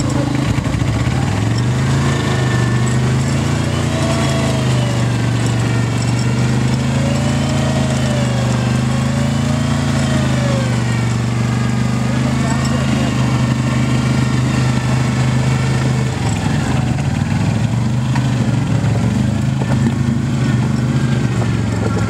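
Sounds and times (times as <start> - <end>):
atv engines under load: 0.0 - 22.0.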